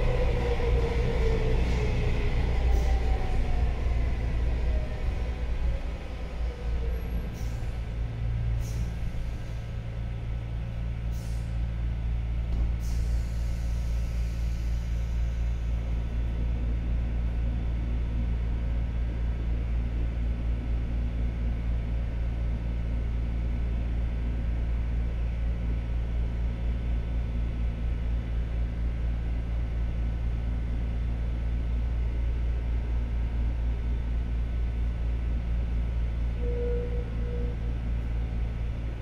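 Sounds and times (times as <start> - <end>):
train car rumble and hum: 0.0 - 39.0.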